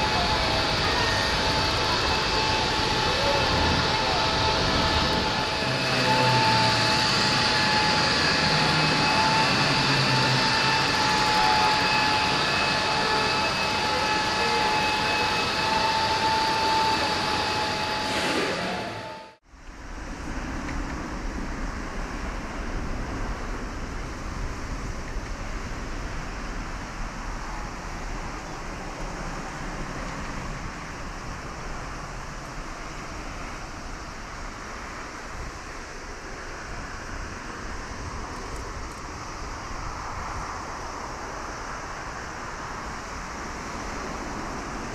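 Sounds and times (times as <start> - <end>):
jet engines rushing: 0.0 - 44.9
turbine whine with high tones: 0.0 - 44.9.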